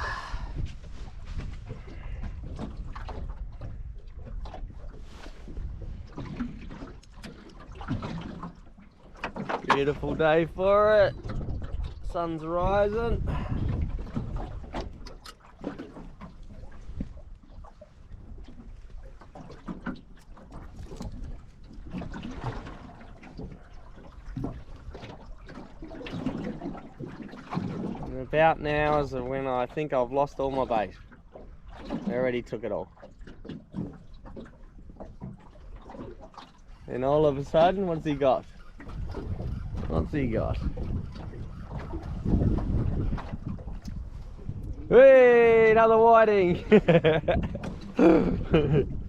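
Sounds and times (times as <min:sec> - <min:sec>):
wind rumble on microphone: 0:00.0 - 0:29.9, 0:33.2 - 0:49.0
water sloshing and lapping: 0:00.0 - 0:49.0.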